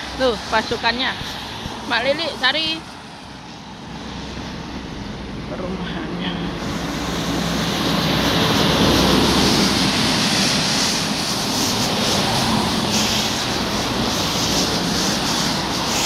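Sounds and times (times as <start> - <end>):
engine rumble: 0.0 - 16.0
tyres hissing on wet road: 0.0 - 16.0.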